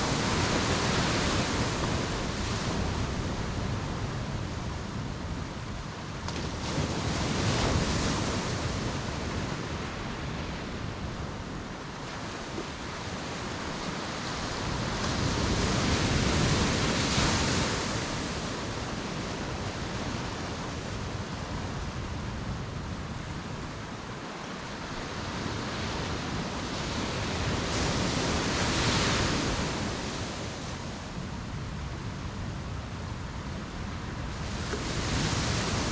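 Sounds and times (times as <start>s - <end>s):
sea waves breaking on a beach: 0.0s - 35.9s.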